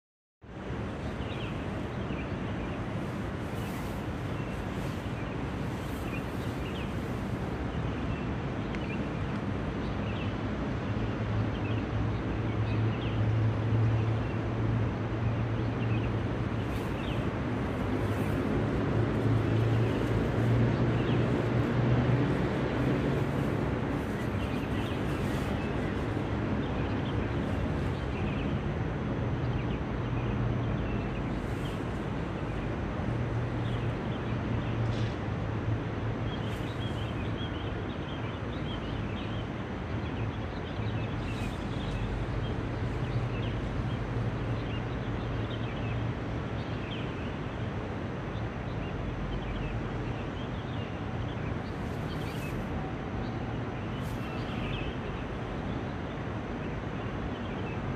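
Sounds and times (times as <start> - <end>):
city traffic hum: 0.4 - 57.9.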